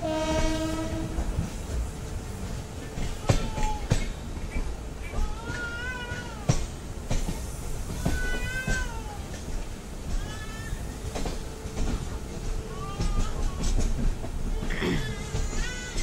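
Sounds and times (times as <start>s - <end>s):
train rumble: 0.0s - 16.0s
wheels clicking over rail joints: 0.0s - 16.0s.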